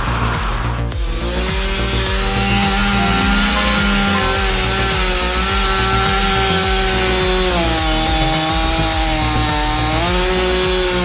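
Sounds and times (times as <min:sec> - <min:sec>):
background music: 0:00.0 - 0:11.0
chainsaw cutting wood: 0:00.0 - 0:11.0.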